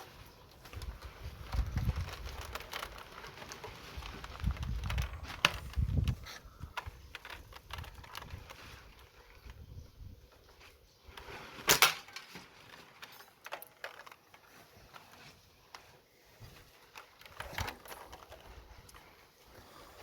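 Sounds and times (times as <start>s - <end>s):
faint rustling: 0.0s - 20.0s.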